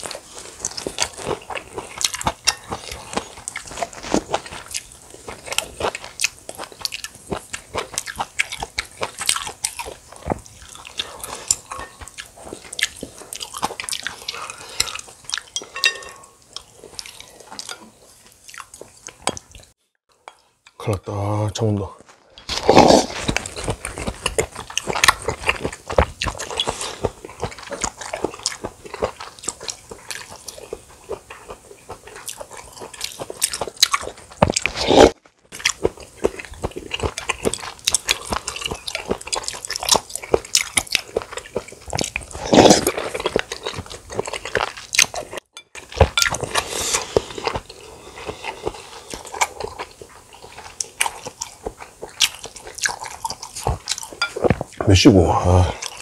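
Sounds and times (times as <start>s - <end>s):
man chewing food: 0.0s - 20.8s, 22.0s - 56.0s.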